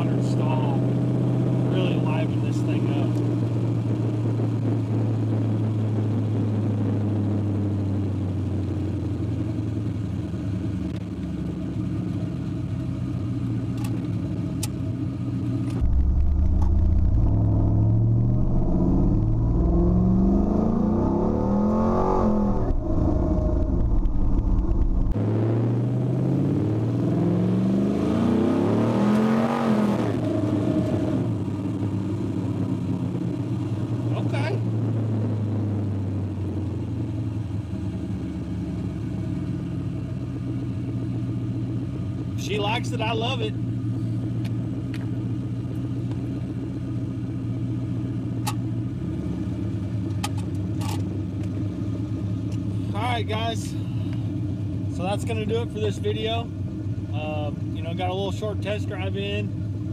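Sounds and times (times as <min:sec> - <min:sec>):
engine running and revving inside cab: 0:00.0 - 0:59.9.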